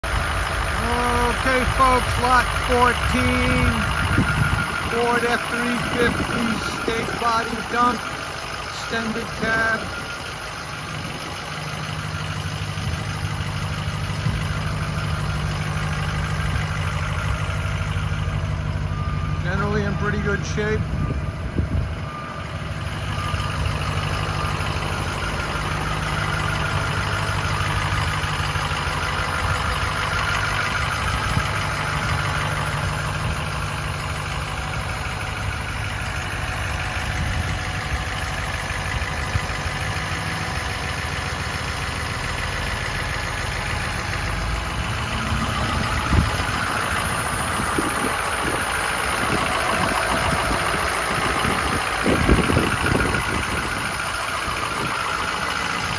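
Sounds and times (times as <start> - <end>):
truck engine idling: 0.0 - 55.9.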